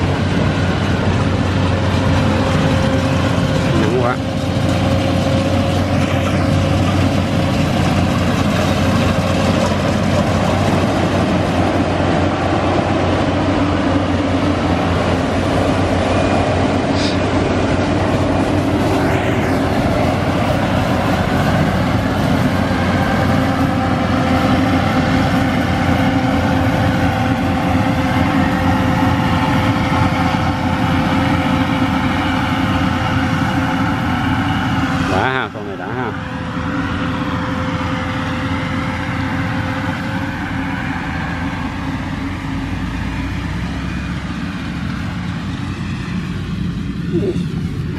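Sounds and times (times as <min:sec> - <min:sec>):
combine harvester droning: 0:00.0 - 0:47.9.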